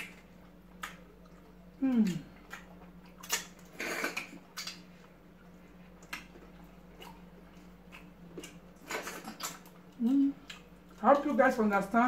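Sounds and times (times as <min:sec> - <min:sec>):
chewing and mouth noise: 0:00.0 - 0:11.6
faint hum: 0:00.0 - 0:12.0.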